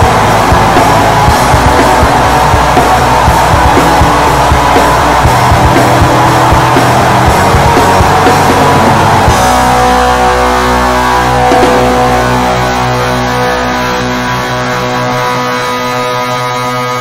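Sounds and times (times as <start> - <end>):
fast drumming: 0.0 - 13.8
distorted electric guitars: 0.0 - 17.0.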